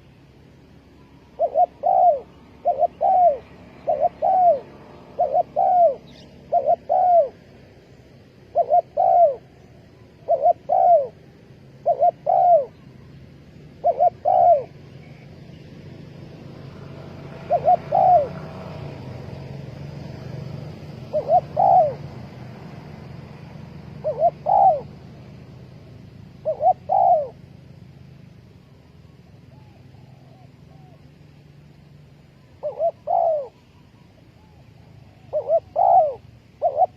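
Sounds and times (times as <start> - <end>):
dove cooing: 0.6 - 28.2, 29.4 - 31.3, 32.3 - 36.9.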